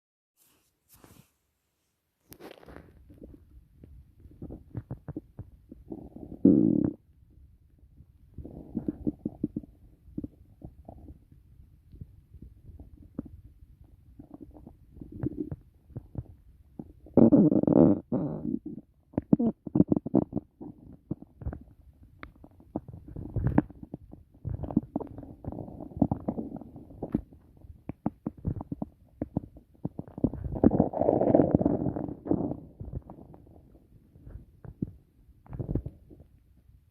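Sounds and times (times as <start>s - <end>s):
stomach gurgling: 2.3s - 36.6s.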